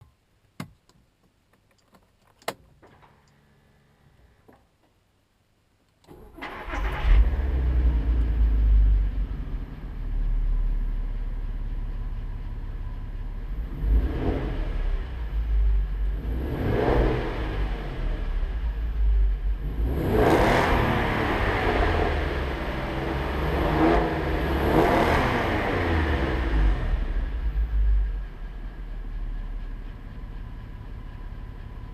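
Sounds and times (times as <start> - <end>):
car engine starting and revving: 6.1 - 31.9.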